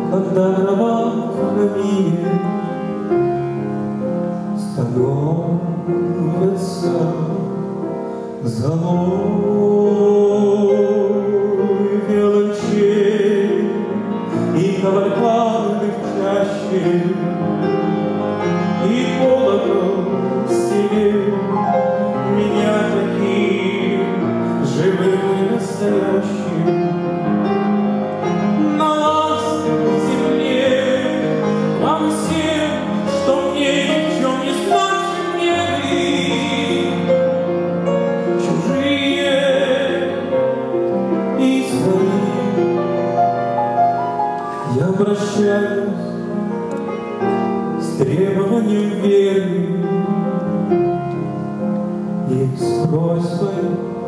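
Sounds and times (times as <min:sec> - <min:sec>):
man singing a slow ballad: 0:00.0 - 0:03.7, 0:04.3 - 0:43.1, 0:44.5 - 0:46.6, 0:47.8 - 0:54.0
grand piano: 0:00.0 - 0:54.0.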